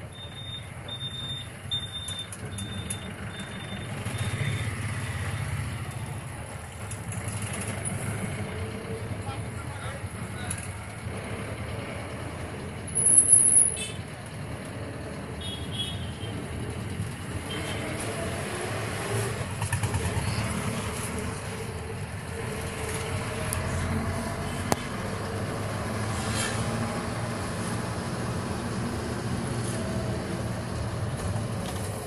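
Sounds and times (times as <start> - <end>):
engine and road noise in cab: 0.0 - 32.0.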